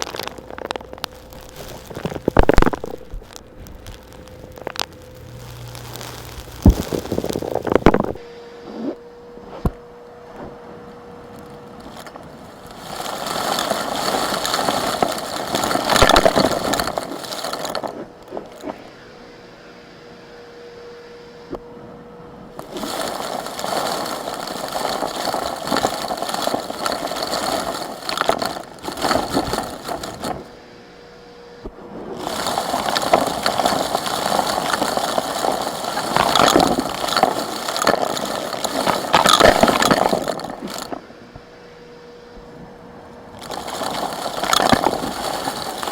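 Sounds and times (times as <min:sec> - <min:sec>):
vacuum cleaner sucking up grit: 0:00.0 - 0:09.7, 0:10.3 - 0:19.0, 0:22.6 - 0:30.6, 0:32.0 - 0:41.0, 0:43.4 - 0:45.9
faint steady hum: 0:00.0 - 0:45.9.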